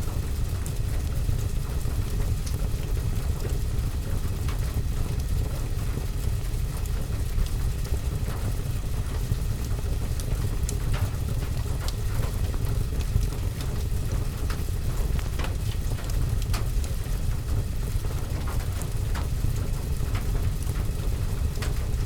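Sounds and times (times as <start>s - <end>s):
wood fire crackling and popping: 0.2s - 22.0s
rain rumbling: 2.1s - 22.0s.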